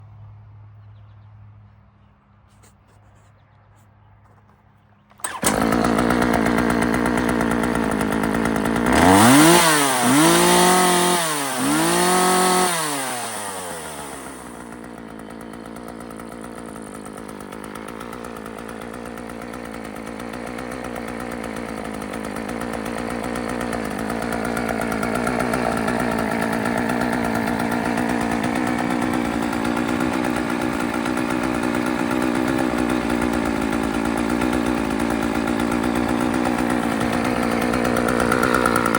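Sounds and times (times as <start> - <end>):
chainsaw engine running: 4.2 - 38.9.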